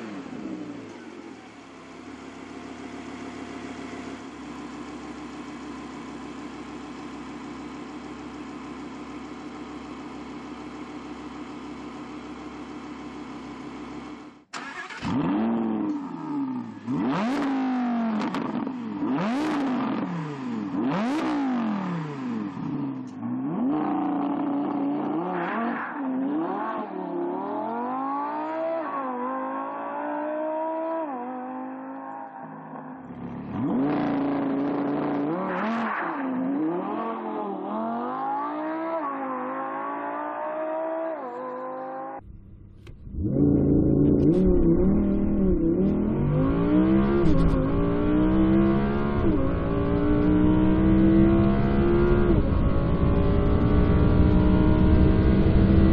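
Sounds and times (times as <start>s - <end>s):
car engine accelerating hard: 8.1s - 55.9s.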